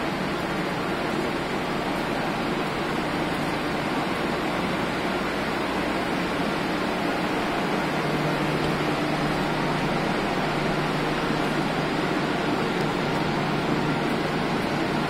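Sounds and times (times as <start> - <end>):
escalator running hiss: 0.0 - 15.0.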